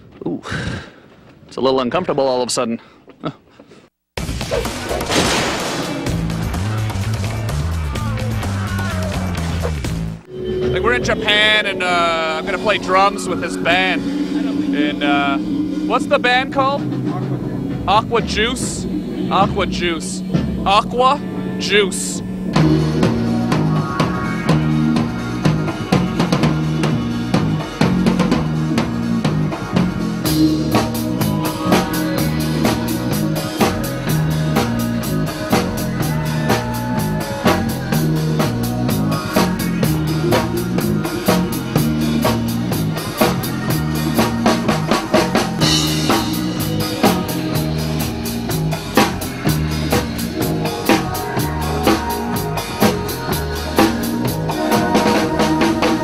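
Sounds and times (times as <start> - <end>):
drum kit beat: 4.2 - 56.0
live band music: 6.3 - 56.0.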